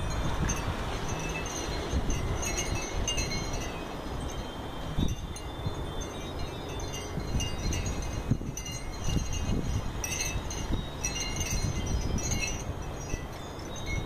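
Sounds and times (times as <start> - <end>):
gusty wind on microphone: 0.0 - 14.0
metallic chiming tones: 0.0 - 14.0.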